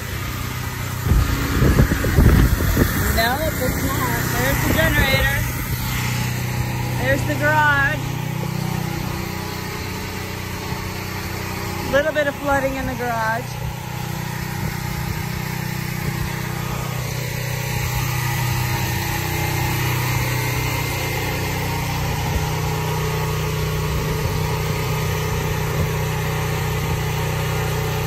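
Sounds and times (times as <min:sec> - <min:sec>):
generator engine running: 0:00.0 - 0:28.0.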